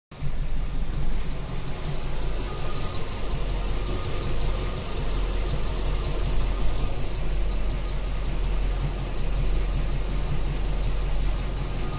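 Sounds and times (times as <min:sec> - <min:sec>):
car engine idling: 0:00.1 - 0:11.9
steady engine ticking: 0:00.1 - 0:11.9.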